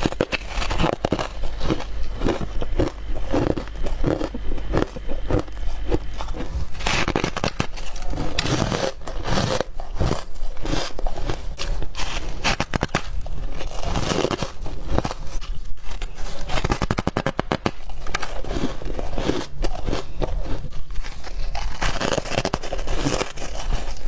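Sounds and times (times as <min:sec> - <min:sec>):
person chewing frost: 0:00.0 - 0:24.0.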